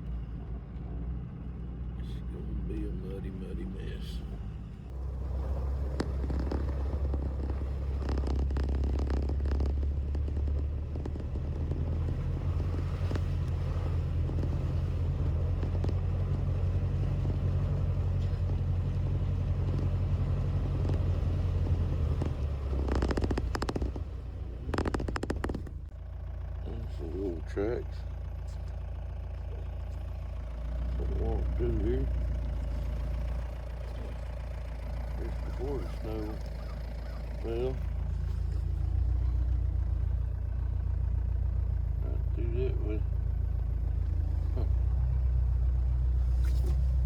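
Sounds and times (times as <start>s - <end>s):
vehicle engine and road noise: 0.0s - 47.0s.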